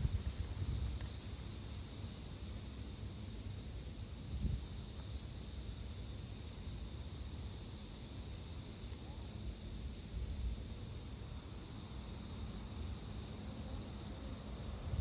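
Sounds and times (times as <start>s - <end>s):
crickets singing: 0.0s - 15.0s.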